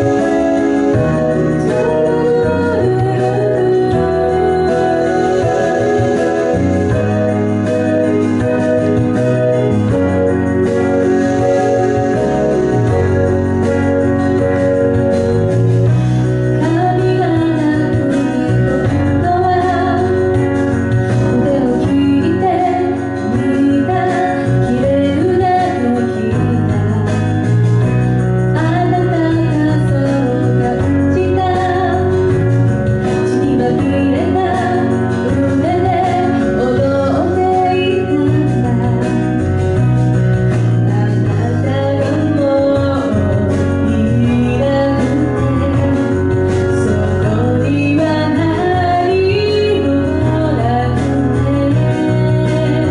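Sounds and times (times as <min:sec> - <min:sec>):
sustained keyboard chords: 0:00.0 - 0:52.9
woman singing a slow ballad: 0:00.0 - 0:52.9.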